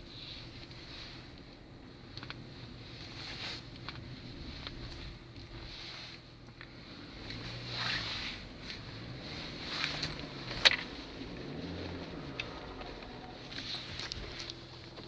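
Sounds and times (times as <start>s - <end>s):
car engine revving: 1.0s - 15.0s.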